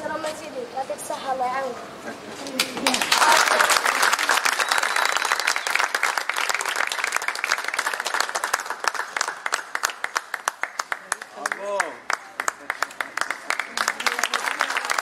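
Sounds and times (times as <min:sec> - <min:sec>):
audience applauding: 0:02.6 - 0:15.0.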